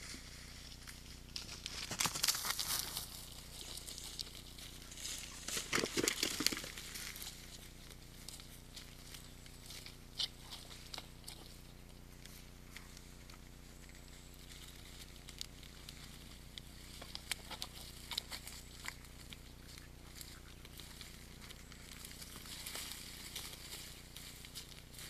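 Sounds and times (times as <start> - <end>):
steady low hum: 0.0 - 25.0
hooves in wet mud: 1.6 - 25.0.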